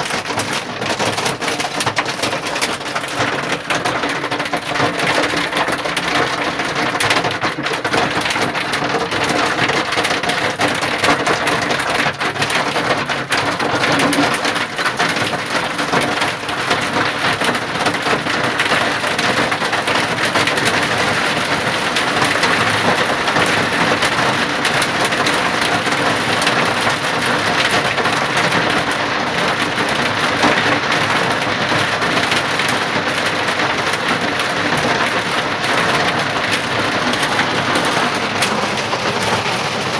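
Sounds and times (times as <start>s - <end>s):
heavy rain on hard surface: 0.0s - 39.9s.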